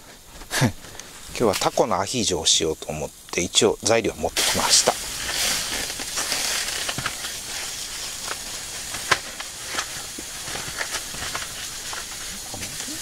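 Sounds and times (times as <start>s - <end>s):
wood fire hissing: 0.0s - 13.0s
fire crackling and popping: 0.1s - 13.0s.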